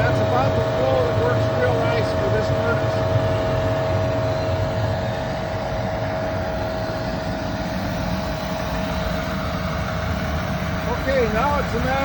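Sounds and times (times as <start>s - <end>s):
furnace flame rumble: 0.0s - 12.0s
steady hum: 0.0s - 12.0s.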